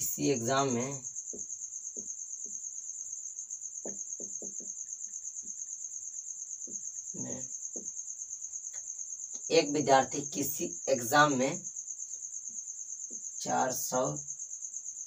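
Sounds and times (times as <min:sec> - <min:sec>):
cricket chirring: 0:00.0 - 0:15.0.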